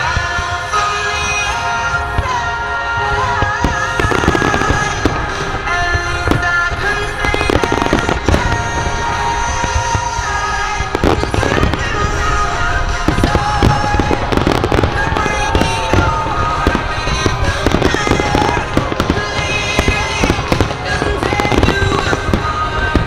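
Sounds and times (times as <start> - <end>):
fireworks bangs: 0.0 - 23.0
music playing: 0.0 - 23.0.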